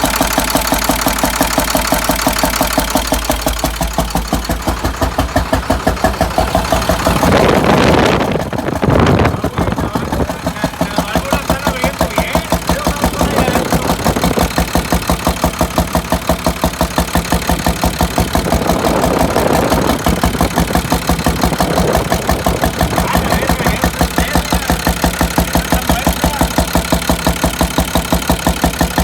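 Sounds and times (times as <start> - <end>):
diesel engine idling: 0.0 - 29.0
rhythmic engine knock: 0.0 - 29.0.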